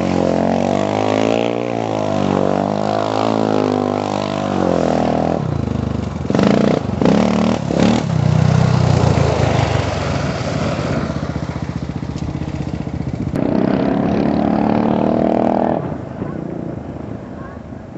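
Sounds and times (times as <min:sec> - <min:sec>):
atv engine revving: 0:00.0 - 0:16.8.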